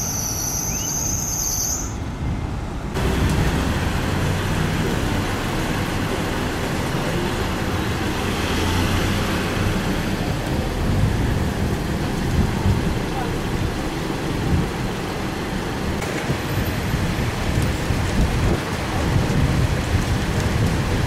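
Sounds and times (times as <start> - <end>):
road noise: 0.0 - 21.0
vehicle engines humming: 2.0 - 21.0.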